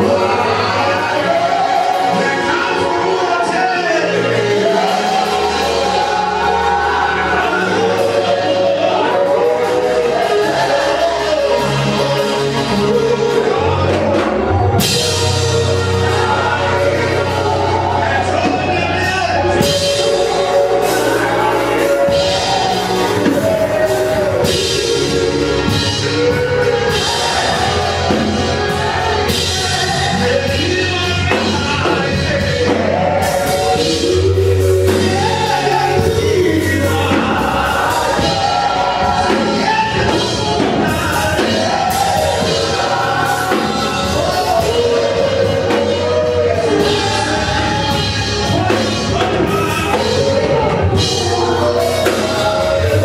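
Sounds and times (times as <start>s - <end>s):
drum kit: 0.0s - 53.0s
women singing gospel: 0.0s - 53.0s.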